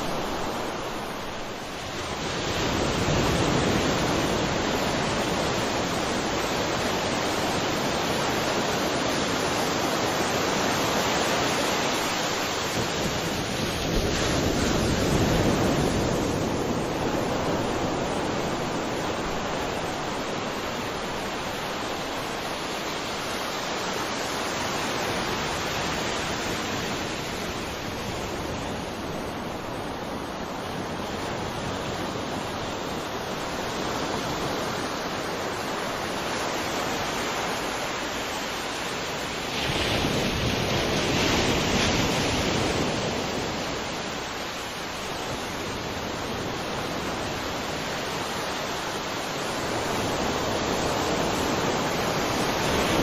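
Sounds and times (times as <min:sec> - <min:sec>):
ocean surf washing on shore: 0:00.0 - 0:53.0.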